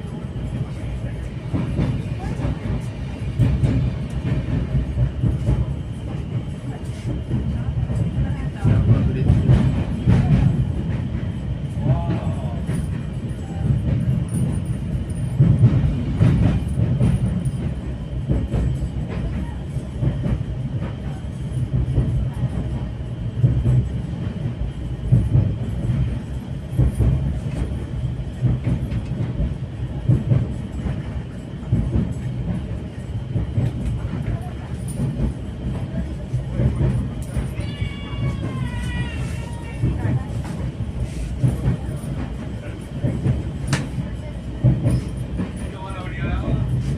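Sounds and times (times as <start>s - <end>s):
train low rumble: 0.0s - 46.9s
train wheel clacks: 0.0s - 46.9s.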